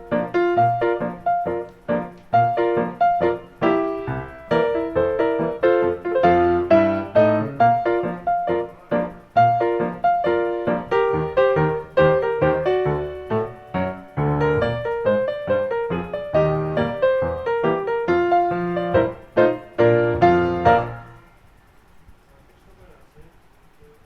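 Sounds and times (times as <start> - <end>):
piano music single notes: 0.0 - 21.4.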